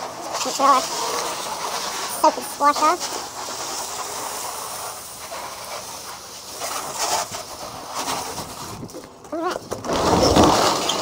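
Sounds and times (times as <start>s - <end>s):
hose spraying water on car: 0.0s - 11.0s.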